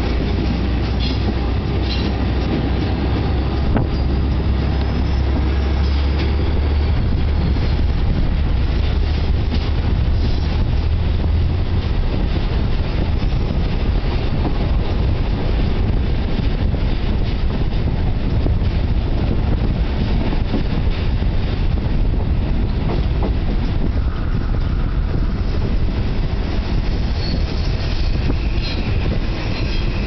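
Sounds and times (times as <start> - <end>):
diesel locomotive engine drone: 0.0 - 30.0
rail and wheel noise: 0.0 - 30.0.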